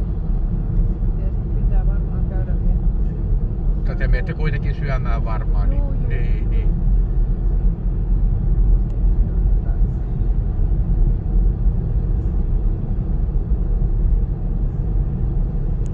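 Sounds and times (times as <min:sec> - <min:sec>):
car cabin road and engine rumble: 0:00.0 - 0:15.9.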